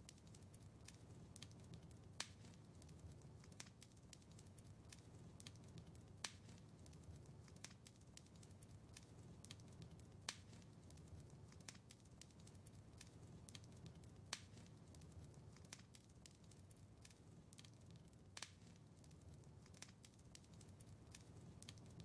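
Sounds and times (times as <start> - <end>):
sharp snaps of fire: 0.0 - 22.0
wood fire crackling: 0.0 - 22.0.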